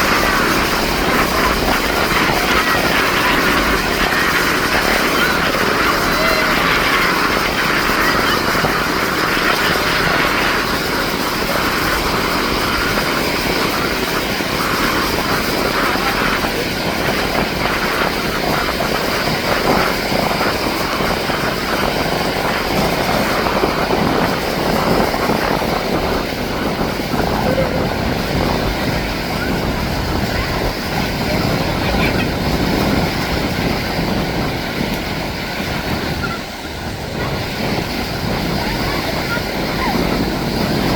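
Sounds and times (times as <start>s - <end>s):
turboprop engines running: 0.0s - 40.9s.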